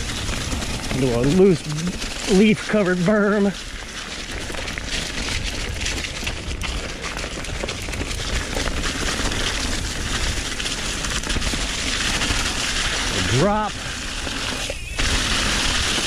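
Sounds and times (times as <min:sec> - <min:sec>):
bike tyres rolling over dry leaves: 0:00.0 - 0:16.0.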